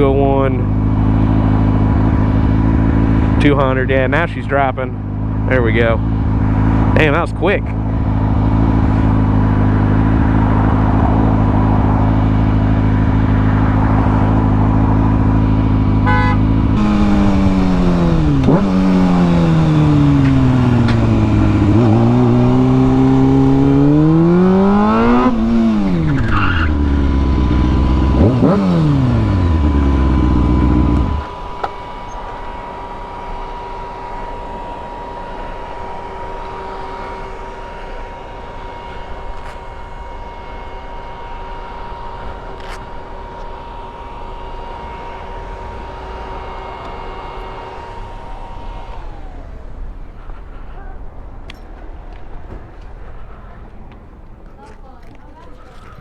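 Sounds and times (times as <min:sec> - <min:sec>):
small motorcycle engine revving: 0:00.0 - 0:54.3.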